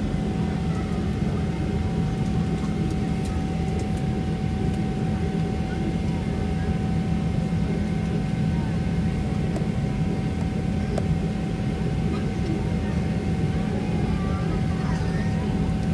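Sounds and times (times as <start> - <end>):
jet engines running: 0.0 - 15.9.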